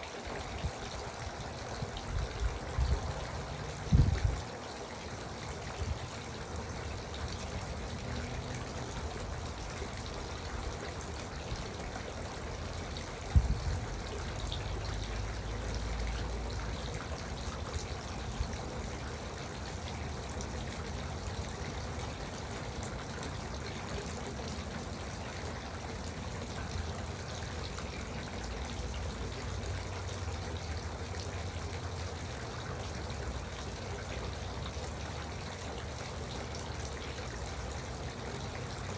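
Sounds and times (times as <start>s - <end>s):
fountain water trickling: 0.0s - 38.9s.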